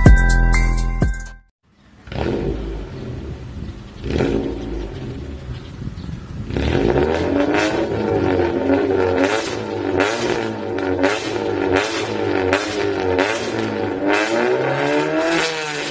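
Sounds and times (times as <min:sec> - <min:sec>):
car engine revving: 0:02.0 - 0:05.5, 0:06.4 - 0:15.9.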